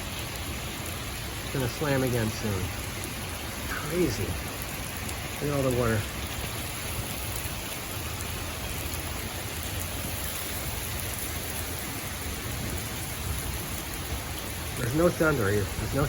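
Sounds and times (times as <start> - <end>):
heavy rain pouring: 0.0 - 16.0
wind rumbling: 0.0 - 16.0.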